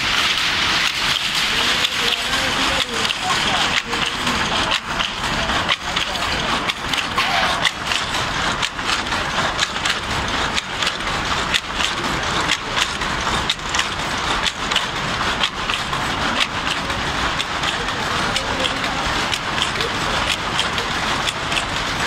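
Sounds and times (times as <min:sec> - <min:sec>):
power loom clattering: 0:00.0 - 0:22.0.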